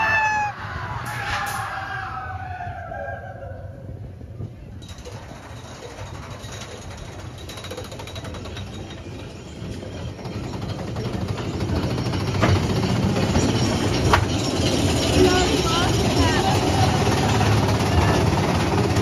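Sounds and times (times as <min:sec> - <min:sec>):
coaster train rattling on track: 0:00.0 - 0:19.0.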